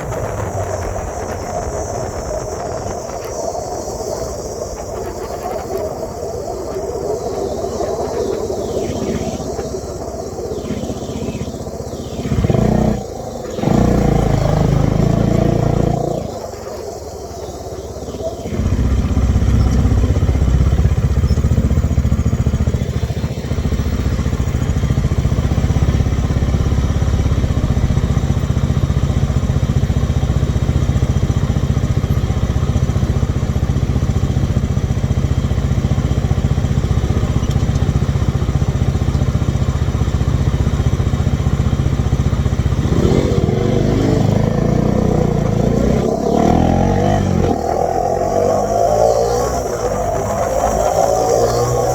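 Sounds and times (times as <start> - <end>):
single-cylinder engine running: 0.0 - 51.9.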